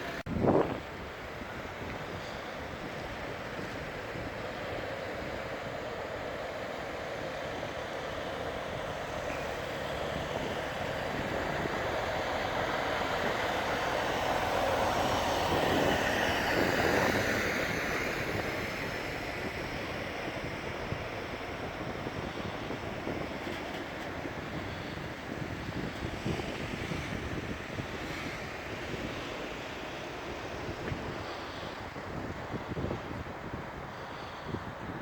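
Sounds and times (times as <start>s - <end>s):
tram passing by: 0.0s - 35.0s.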